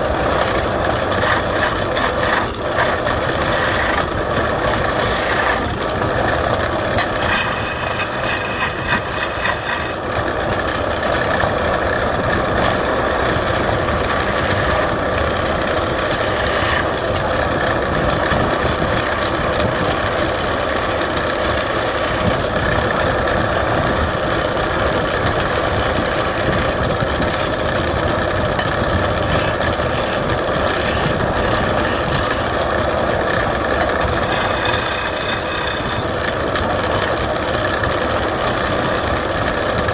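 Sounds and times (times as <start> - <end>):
wood lathe cutting wood: 0.0 - 37.9.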